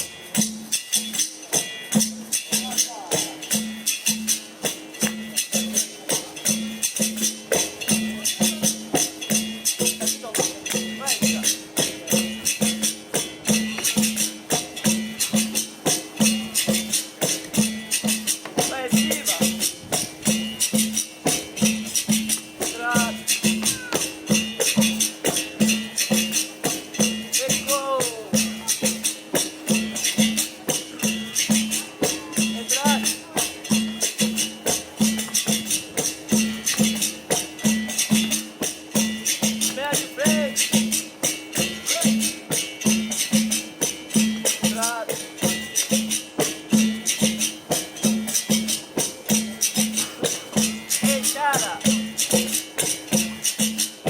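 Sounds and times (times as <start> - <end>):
berimbau rhythm: 0.0 - 54.0
pandeiro jingles: 0.0 - 54.0.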